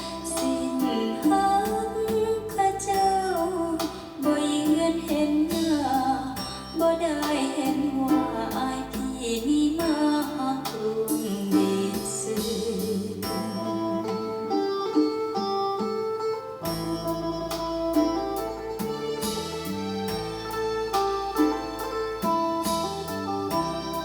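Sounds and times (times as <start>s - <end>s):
song over speakers: 0.0s - 14.6s, 16.6s - 24.0s.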